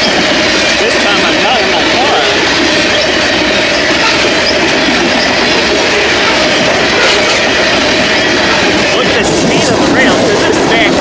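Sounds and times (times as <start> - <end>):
steel wheels running on rails: 0.0 - 11.0.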